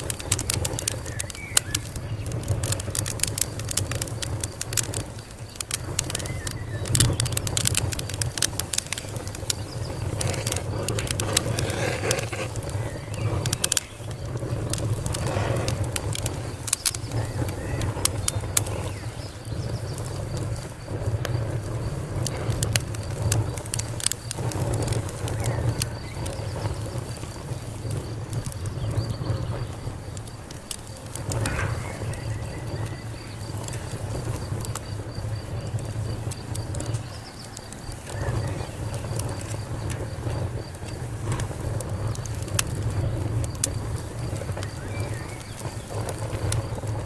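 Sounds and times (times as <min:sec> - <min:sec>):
low rumble of burning: 0:00.0 - 0:47.0
sharp pops and snaps: 0:00.0 - 0:47.0
wood fire crackling: 0:00.0 - 0:47.0.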